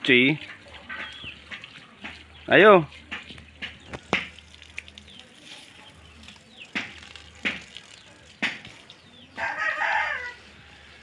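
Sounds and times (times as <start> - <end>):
garden hose spraying on concrete: 0.0 - 11.0.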